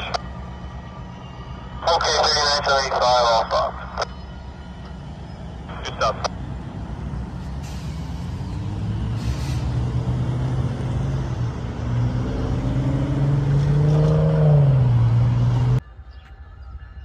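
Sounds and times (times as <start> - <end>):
diesel locomotive engine running: 0.0 - 15.8.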